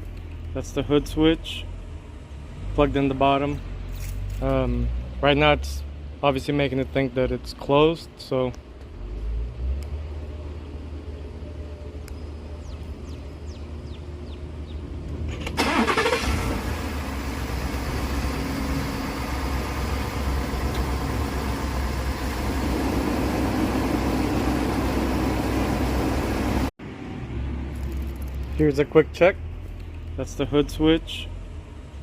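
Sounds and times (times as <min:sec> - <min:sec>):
truck engine cranking and idling: 0:00.0 - 0:32.0.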